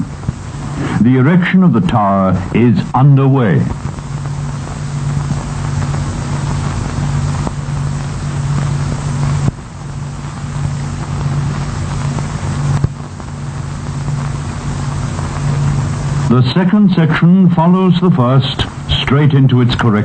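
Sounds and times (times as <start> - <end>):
film soundtrack hiss: 0.0 - 20.0
low machinery drone: 0.0 - 20.0.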